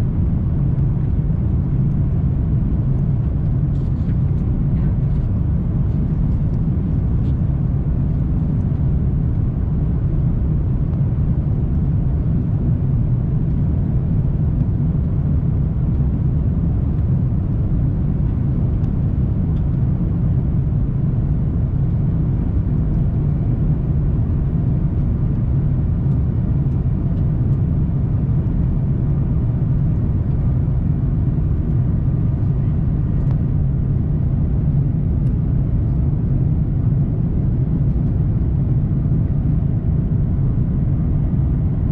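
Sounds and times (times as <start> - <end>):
jet engines and airflow in cabin: 0.0 - 41.9.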